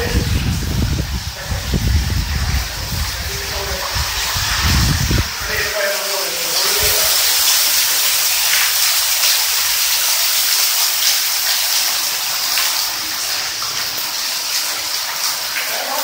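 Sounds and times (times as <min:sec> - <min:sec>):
heavy rain on concrete roof: 0:00.0 - 0:16.0.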